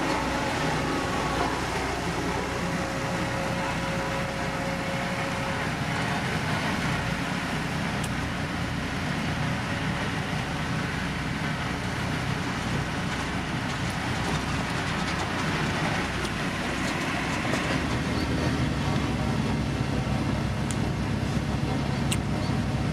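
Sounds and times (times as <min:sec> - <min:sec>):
diesel machinery rumbling: 0:00.0 - 0:22.9.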